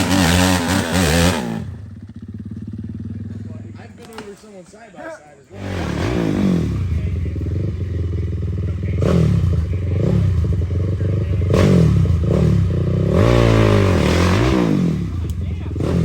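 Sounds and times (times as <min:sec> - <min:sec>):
dirt bike engine revving: 0:00.0 - 0:04.3, 0:05.4 - 0:16.0.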